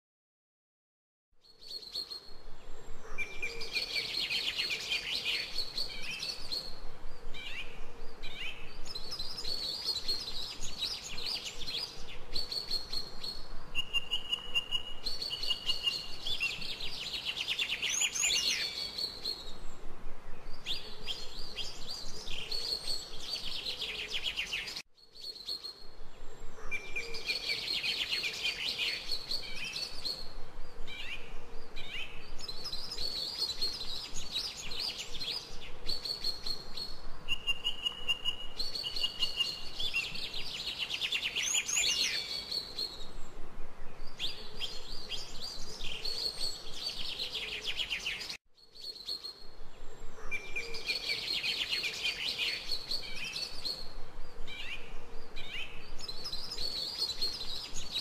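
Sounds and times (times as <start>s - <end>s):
songbirds singing: 1.4s - 58.0s.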